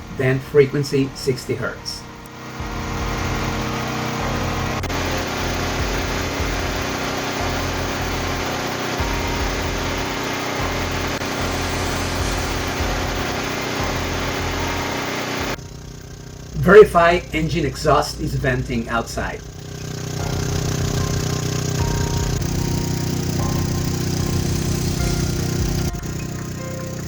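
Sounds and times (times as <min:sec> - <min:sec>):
portable generator engine running: 0:00.0 - 0:27.0.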